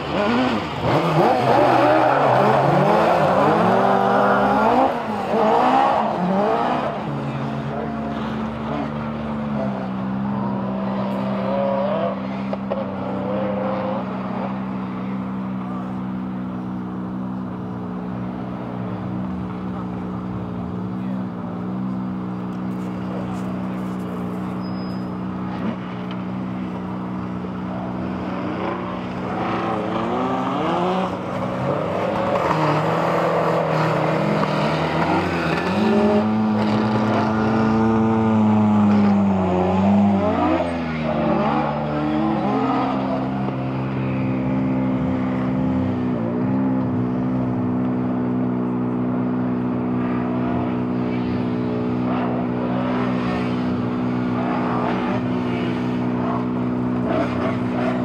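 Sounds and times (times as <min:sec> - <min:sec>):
rally car engine driven hard: 0:00.0 - 0:58.0.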